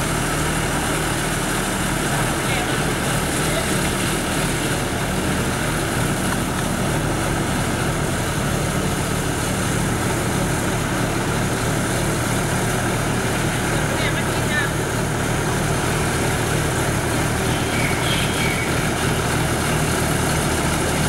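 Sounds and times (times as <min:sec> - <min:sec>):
boat hoist engine humming: 0:00.0 - 0:21.0.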